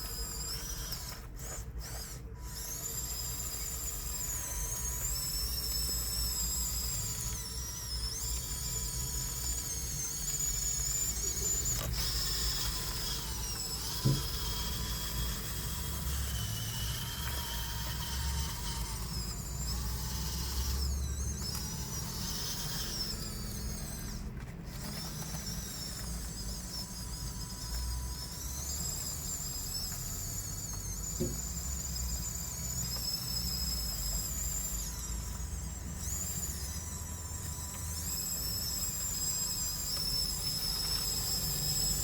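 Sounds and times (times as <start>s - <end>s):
toy bulldozer motors whining: 0.0s - 42.0s.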